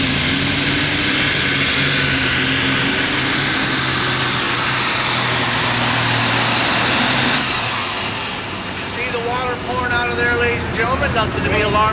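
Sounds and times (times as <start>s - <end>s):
pulling vehicle engine running loud: 0.0s - 11.9s.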